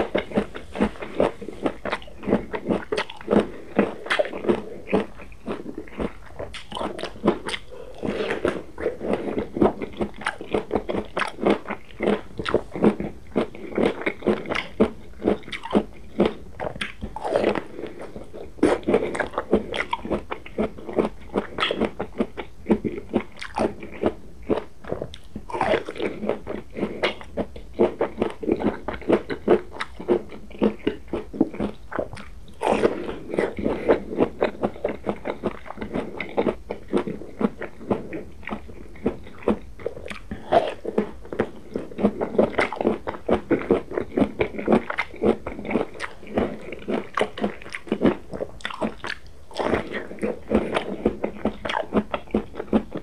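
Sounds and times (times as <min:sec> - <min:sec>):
eating crunchy food close up: 0:00.0 - 0:53.0
wet chewing clicks and crunches: 0:00.0 - 0:53.0.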